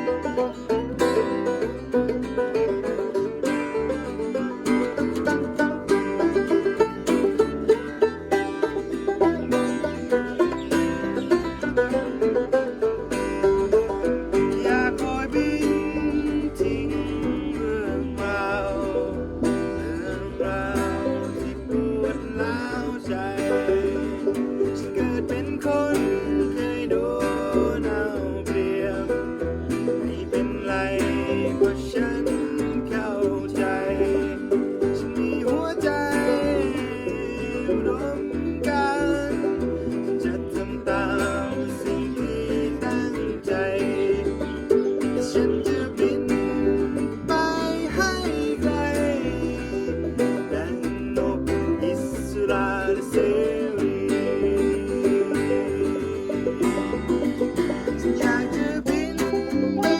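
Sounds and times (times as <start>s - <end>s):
folk band instrumental: 0.0s - 59.9s
picked string instruments: 0.0s - 59.9s
steady bass line: 0.0s - 59.9s.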